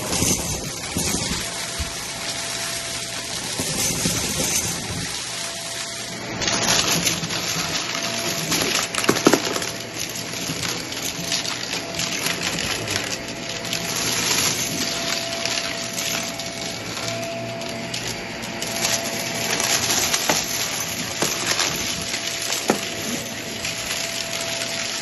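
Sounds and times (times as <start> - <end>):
beads crunching in vacuum: 0.0 - 25.0
vacuum motor running: 0.0 - 25.0.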